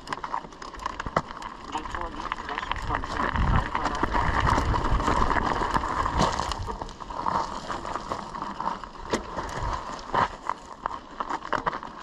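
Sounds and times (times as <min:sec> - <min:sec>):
bike rattling: 0:00.0 - 0:12.0
bike tyres crunching on gravel: 0:00.0 - 0:12.0.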